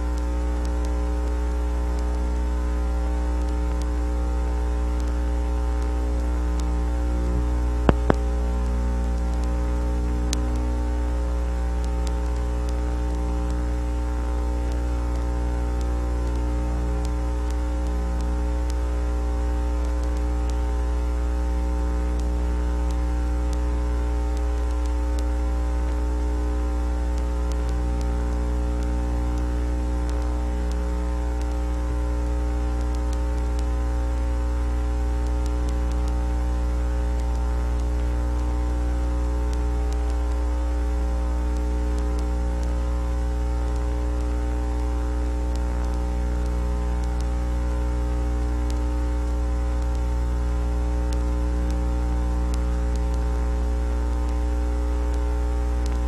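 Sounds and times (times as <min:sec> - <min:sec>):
buzzy electrical hum: 0:00.0 - 0:56.0.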